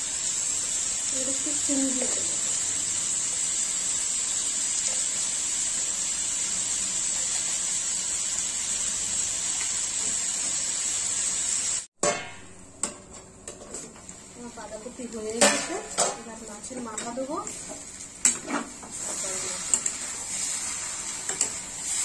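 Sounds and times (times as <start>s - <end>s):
vegetables sizzling in a wok: 0.0s - 22.0s.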